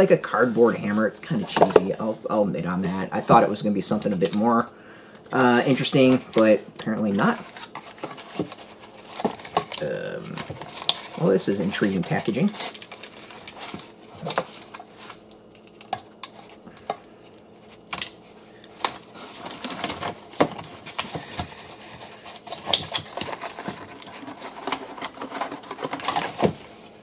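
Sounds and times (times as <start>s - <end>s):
cardboard rustling: 0.0s - 4.7s, 5.3s - 27.0s.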